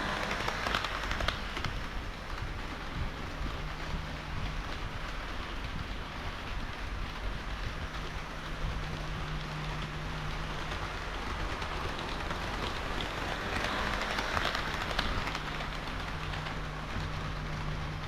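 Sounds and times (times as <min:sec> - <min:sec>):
low motor hum: 0:00.0 - 0:18.0
model train wheels rolling on rail: 0:00.0 - 0:18.0.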